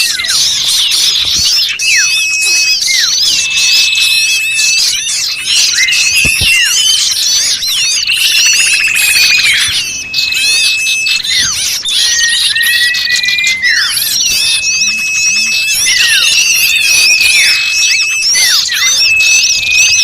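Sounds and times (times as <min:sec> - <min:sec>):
buzzy bird trill: 0:00.0 - 0:20.0
chorus of songbirds: 0:00.0 - 0:20.0.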